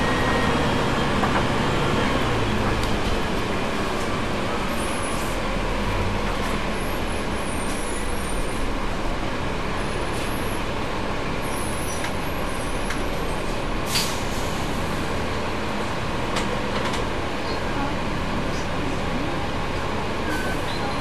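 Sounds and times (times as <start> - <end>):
bus diesel engine idling: 0.0 - 21.0.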